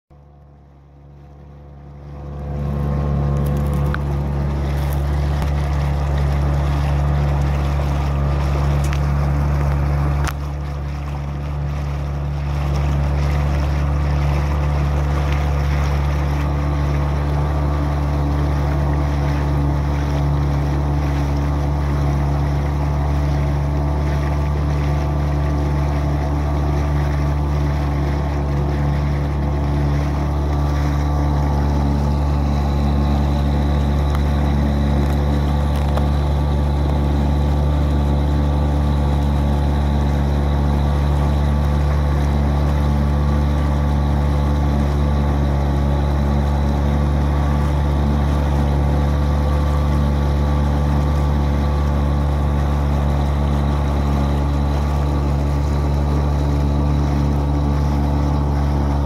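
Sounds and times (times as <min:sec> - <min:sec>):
outboard motor droning: 0:00.1 - 0:59.0.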